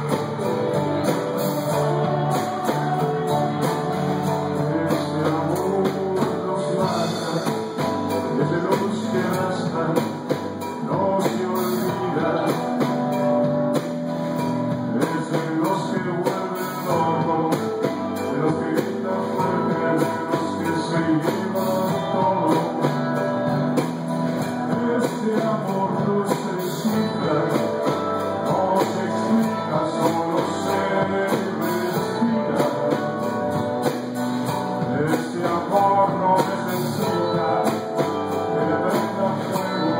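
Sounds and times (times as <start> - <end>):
man singing: 0.0 - 13.8, 14.7 - 39.9
bass guitar: 0.0 - 39.9
drums: 0.0 - 39.9
electric guitar: 0.0 - 39.9.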